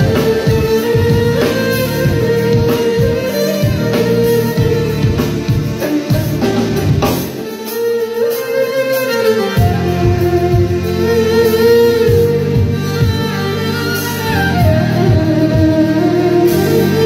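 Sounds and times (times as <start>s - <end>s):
drums and bass backing: 0.0s - 17.0s
violin melody: 0.0s - 17.0s.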